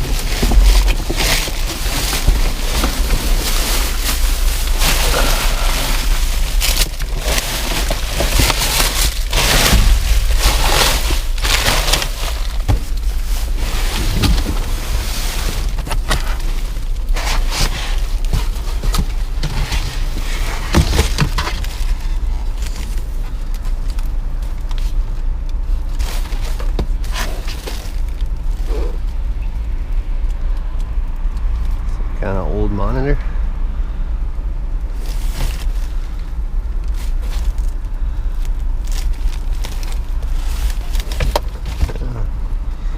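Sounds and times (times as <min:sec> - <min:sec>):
trash bags rustling and crunching: 0:00.0 - 0:29.9, 0:34.8 - 0:42.6
steady low rumble: 0:00.0 - 0:42.9.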